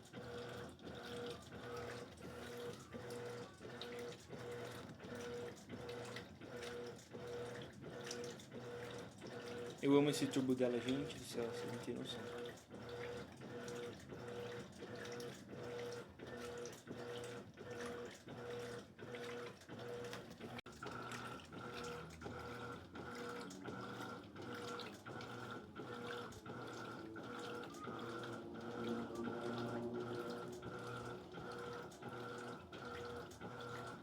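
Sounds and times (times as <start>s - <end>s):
washing machine agitating: 0.0s - 34.0s.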